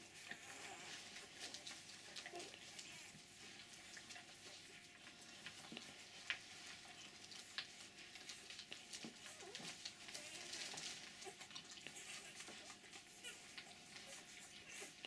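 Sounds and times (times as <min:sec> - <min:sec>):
puppies suckling: 0:00.0 - 0:15.0.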